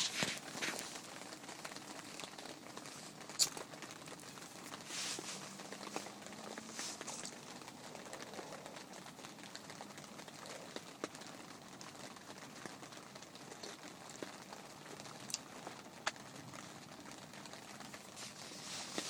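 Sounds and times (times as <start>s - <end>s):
light rain pattering: 0.0s - 19.0s.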